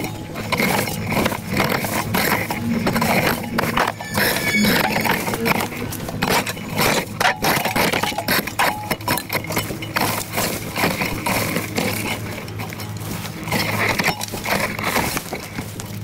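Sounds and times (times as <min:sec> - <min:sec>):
metal rake scraping through leaves: 0:00.0 - 0:16.0.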